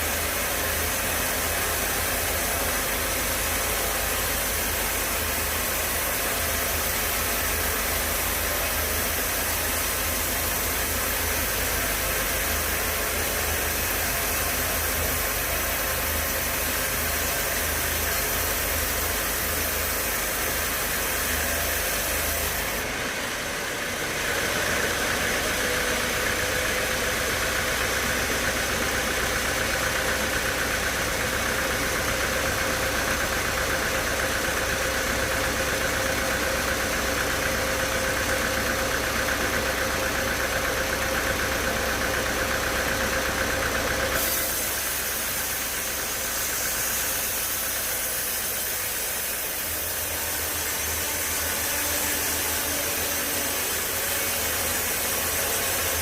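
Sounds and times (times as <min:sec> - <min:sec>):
sawmill machinery running: 0:00.0 - 0:56.0
steady machine whine: 0:00.0 - 0:56.0.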